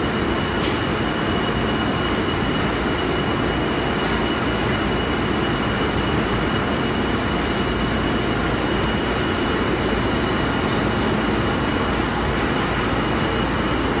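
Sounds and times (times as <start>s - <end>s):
industrial vacuum cleaner running: 0.0s - 14.0s.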